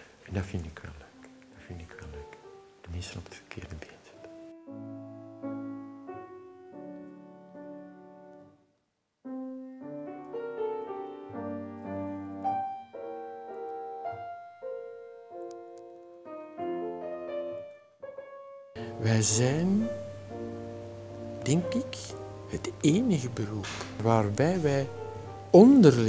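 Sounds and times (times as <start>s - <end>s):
solo piano playing: 0.6s - 26.0s.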